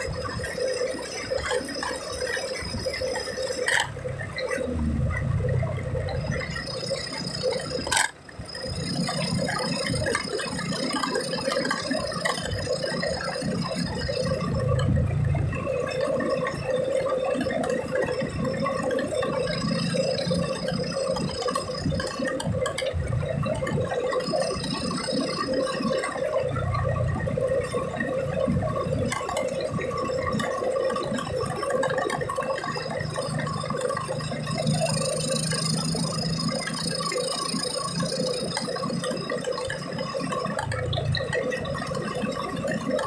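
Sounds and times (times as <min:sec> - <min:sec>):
car road and engine noise: 0:00.0 - 0:43.0.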